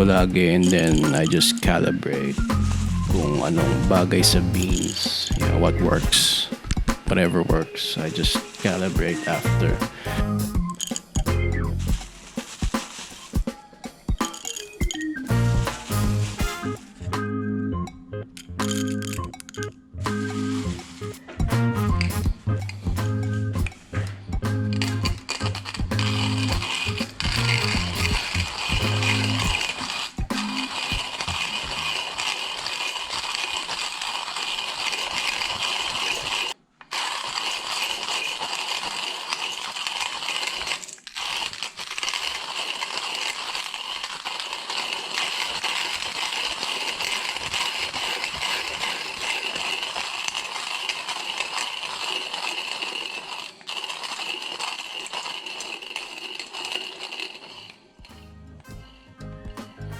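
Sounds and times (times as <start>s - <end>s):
hand coffee grinder grinding: 0.0s - 17.1s, 18.4s - 58.3s.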